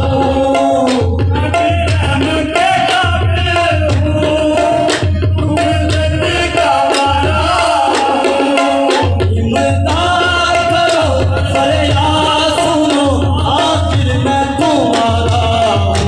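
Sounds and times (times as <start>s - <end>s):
tabla and drum beat: 0.0s - 16.0s.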